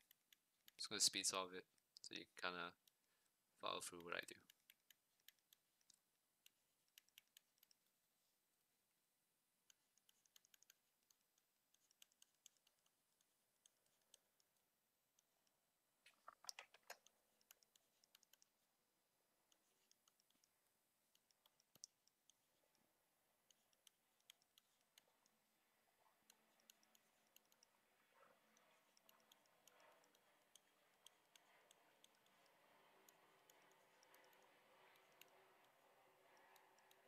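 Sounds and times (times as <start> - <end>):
stylus tapping on tablet screen: 4.5 - 8.0, 9.7 - 18.6, 19.4 - 37.0.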